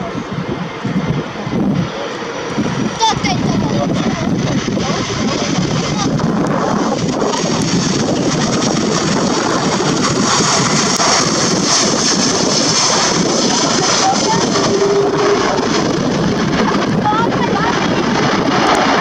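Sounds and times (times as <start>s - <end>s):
jet engine noise: 0.0s - 19.0s
wind buffeting microphone: 0.0s - 19.0s.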